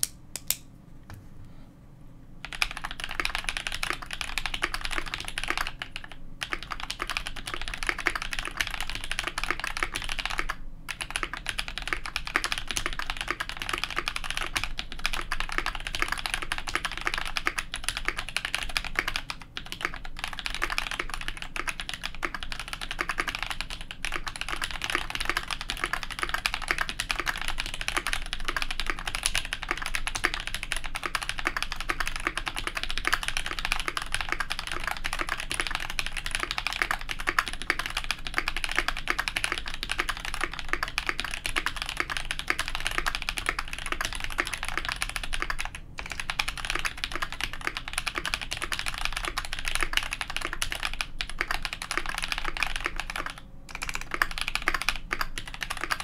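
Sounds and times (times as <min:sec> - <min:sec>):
mechanical keyboard typing: 0:02.4 - 0:56.0.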